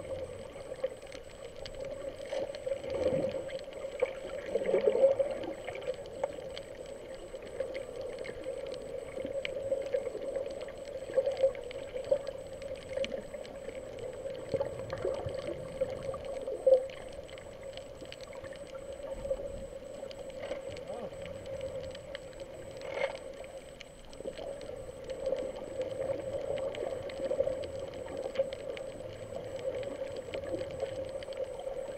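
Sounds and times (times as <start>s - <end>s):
small clicks and crackles: 0.0s - 31.9s
steady underwater hum: 0.0s - 31.9s
water noise swells: 0.0s - 31.9s.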